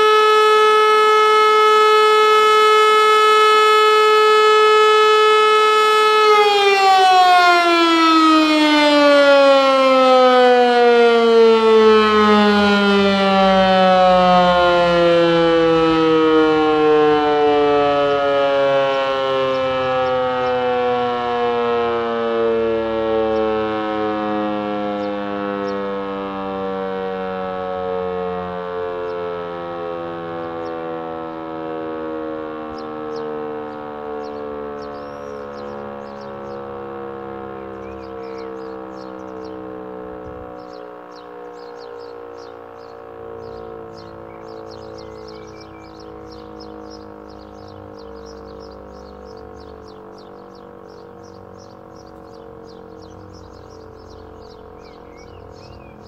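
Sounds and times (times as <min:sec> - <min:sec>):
rotary siren wailing: 0:00.0 - 0:56.0.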